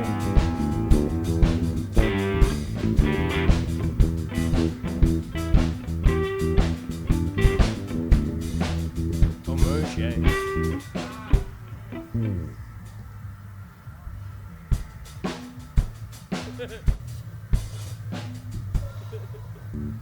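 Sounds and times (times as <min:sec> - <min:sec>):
bluesy rock music: 0:00.0 - 0:13.0, 0:14.8 - 0:18.8.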